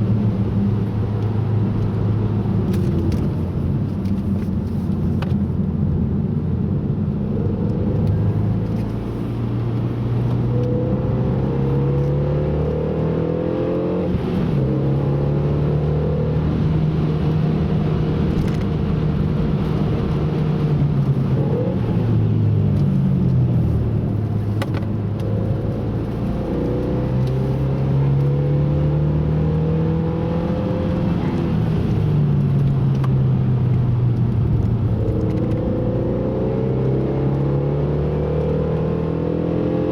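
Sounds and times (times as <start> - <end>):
road and tyre noise: 0.0 - 39.9
car engine revving: 7.3 - 39.9.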